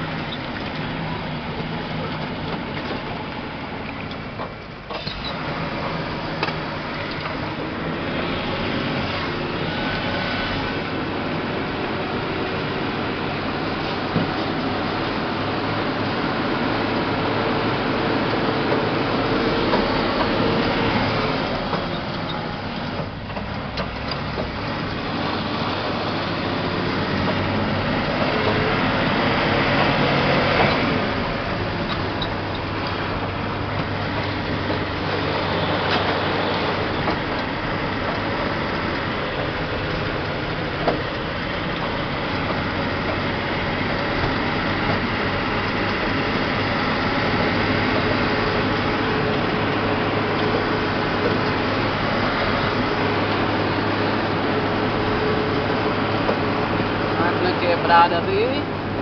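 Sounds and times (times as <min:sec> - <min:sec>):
road noise: 0:00.0 - 0:59.0
truck engine droning: 0:00.0 - 0:59.0.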